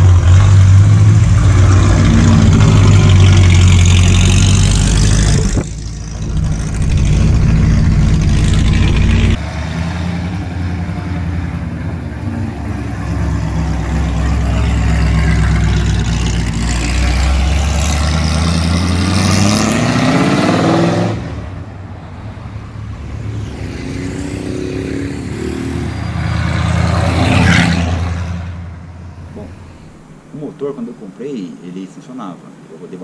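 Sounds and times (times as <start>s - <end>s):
car engine accelerating past: 0.0s - 30.1s.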